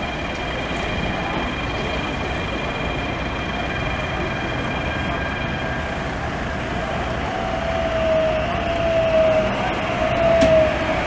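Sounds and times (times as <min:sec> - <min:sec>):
street traffic noise: 0:00.0 - 0:11.0
tram electric drive whining: 0:00.0 - 0:11.0.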